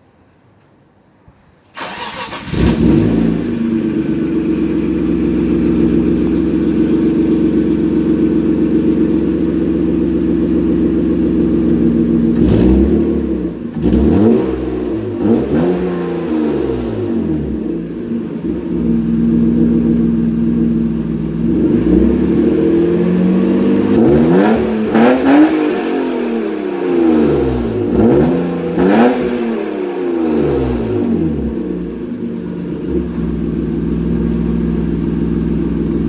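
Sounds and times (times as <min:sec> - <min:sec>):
car engine idling: 0:01.7 - 0:36.0
engine revving: 0:01.8 - 0:09.4, 0:10.5 - 0:33.4.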